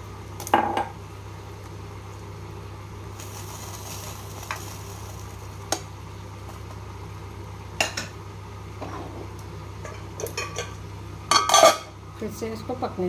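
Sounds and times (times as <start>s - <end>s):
chutney sizzling in a pan: 0.0s - 12.9s.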